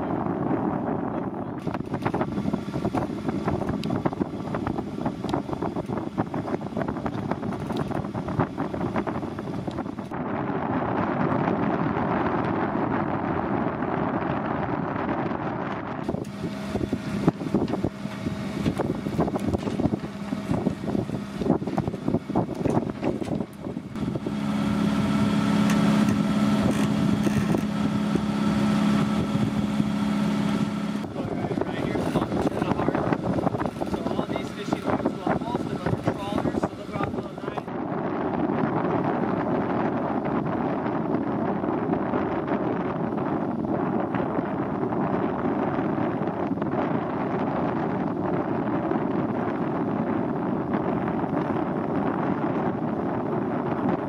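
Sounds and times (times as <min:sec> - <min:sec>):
boat engine humming: 0:00.0 - 0:54.0
wind rushing over microphone: 0:00.0 - 0:54.0.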